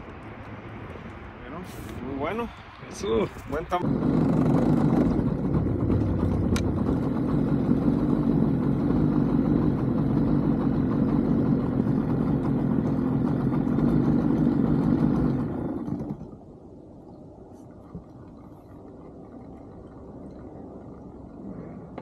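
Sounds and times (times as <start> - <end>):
outboard motor running: 3.8 - 22.0.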